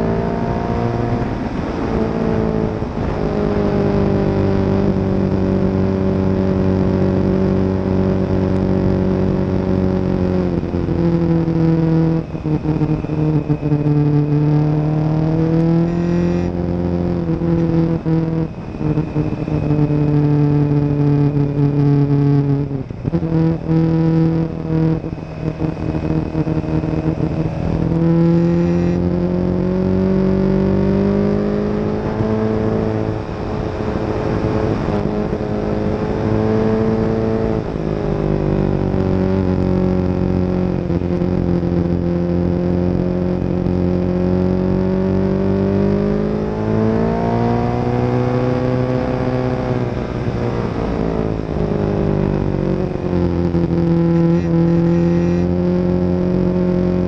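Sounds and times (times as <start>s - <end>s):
motorcycle engine at speed: 0.0s - 57.0s.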